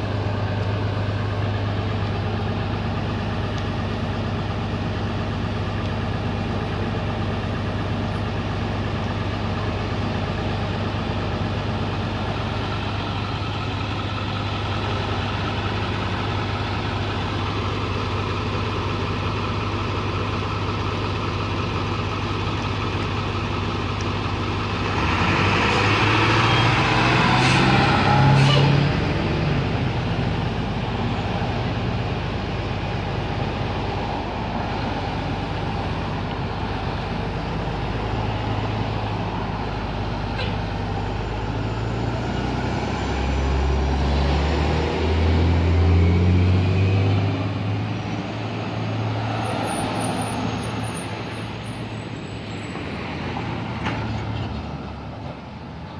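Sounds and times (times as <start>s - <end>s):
bus engine running: 0.0s - 55.9s
deep engine rumble: 0.0s - 55.9s
street traffic: 0.0s - 55.9s.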